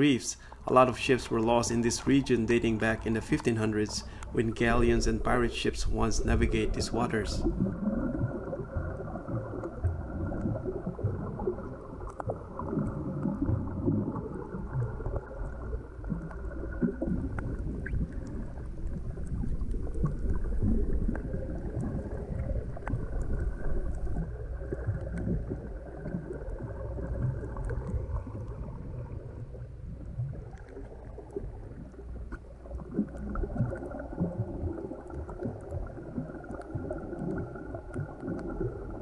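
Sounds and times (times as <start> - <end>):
muffled underwater water sloshing: 0.0 - 39.0.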